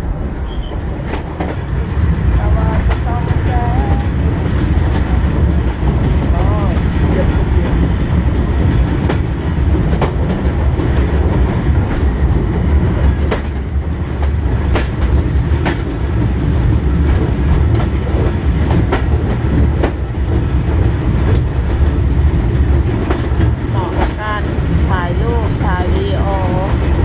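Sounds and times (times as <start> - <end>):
train rumble: 0.0 - 27.0
wheels clacking over rail joints: 0.5 - 27.0.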